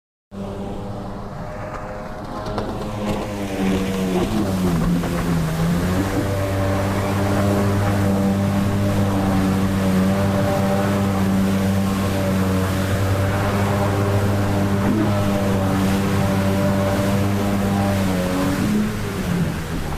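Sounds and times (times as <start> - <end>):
jet ski engine running: 0.4 - 19.9
water and wind hiss: 0.4 - 19.9.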